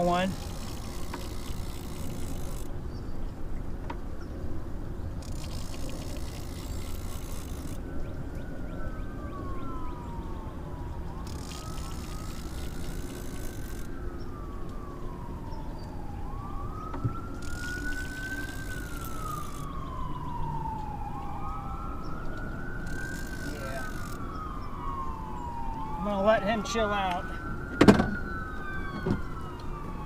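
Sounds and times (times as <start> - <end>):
emergency siren wailing: 0.0 - 2.8, 5.2 - 30.0.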